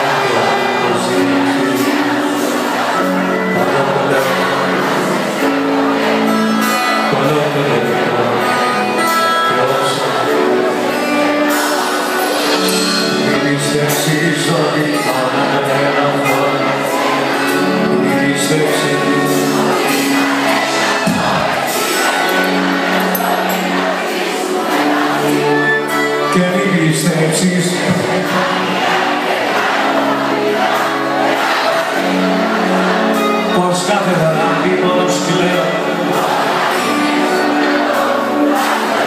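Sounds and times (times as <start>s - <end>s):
live band music over pa: 0.0s - 39.0s.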